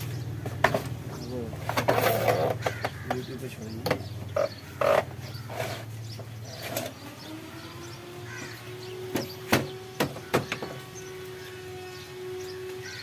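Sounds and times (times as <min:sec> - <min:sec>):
harsh bird calls: 0:00.0 - 0:13.0.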